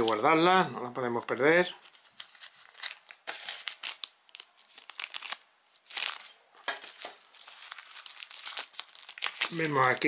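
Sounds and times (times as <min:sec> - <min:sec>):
plastic bags crinkling: 0:01.8 - 0:10.0.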